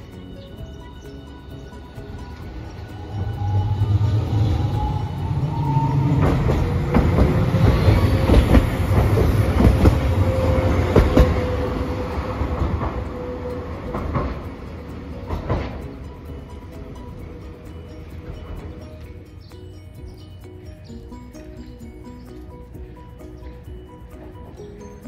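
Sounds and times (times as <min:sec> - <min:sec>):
tram motor whine: 0:00.0 - 0:25.0
tram rumbling past: 0:00.0 - 0:25.0
wheels clacking over rail joints: 0:00.0 - 0:25.0.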